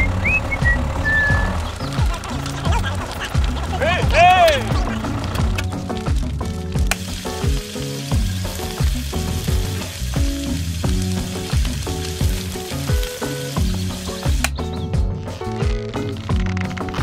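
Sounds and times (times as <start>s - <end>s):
music with steady beat: 0.0s - 17.0s
water jet hissing on fire: 1.1s - 16.3s.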